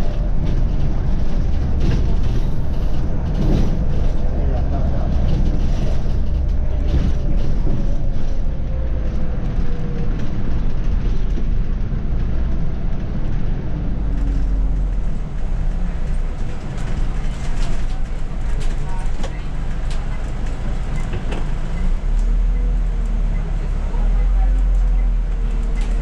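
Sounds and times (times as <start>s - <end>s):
bus engine rumble: 0.0s - 26.0s
road noise: 0.0s - 26.0s.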